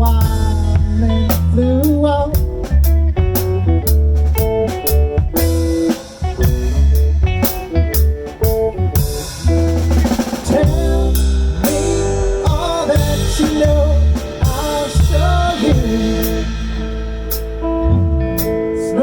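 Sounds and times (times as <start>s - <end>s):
bass guitar: 0.0s - 19.0s
drum kit: 0.0s - 19.0s
guitar lead line bending in pitch: 3.2s - 19.0s.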